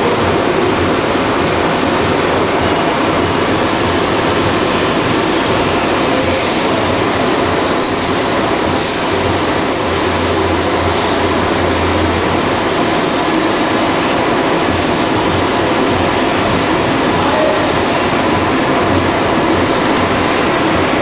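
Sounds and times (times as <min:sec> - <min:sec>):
machine mechanical din: 0:00.0 - 0:21.0.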